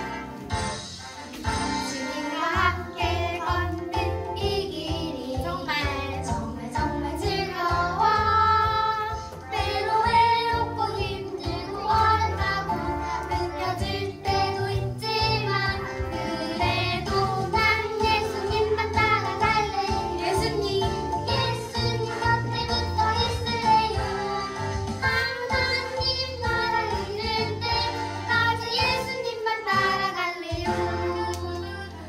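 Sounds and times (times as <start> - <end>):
instrumental accompaniment: 0.0 - 32.0
children singing: 1.7 - 32.0.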